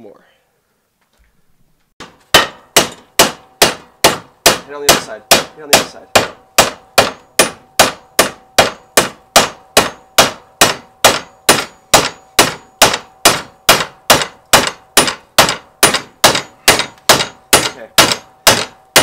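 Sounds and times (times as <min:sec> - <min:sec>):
hammer striking metal bar: 0:02.0 - 0:19.0.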